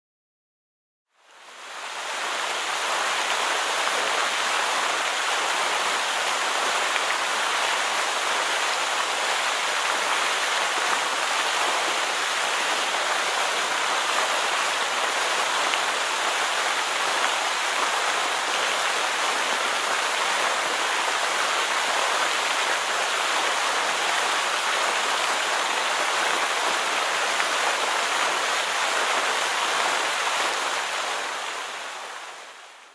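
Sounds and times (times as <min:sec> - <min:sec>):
stream cascading over rocks: 0:01.2 - 0:32.9.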